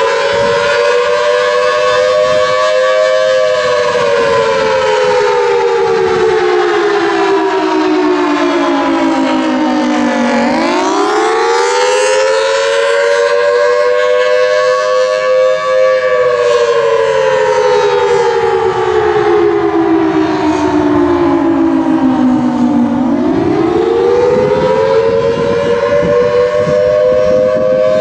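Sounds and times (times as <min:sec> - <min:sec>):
warning siren wailing: 0:00.0 - 0:28.0.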